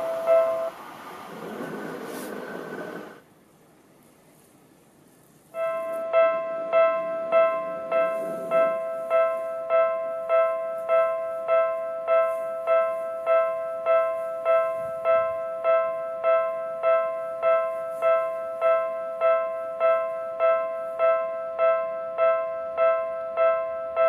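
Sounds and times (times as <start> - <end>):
level crossing warning bell: 0.0 - 3.2, 5.6 - 24.0.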